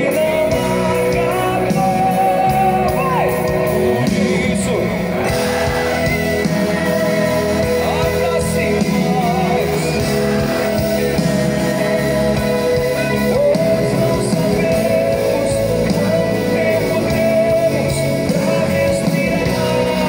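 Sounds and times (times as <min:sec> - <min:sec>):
live band with singer: 0:00.0 - 0:20.0.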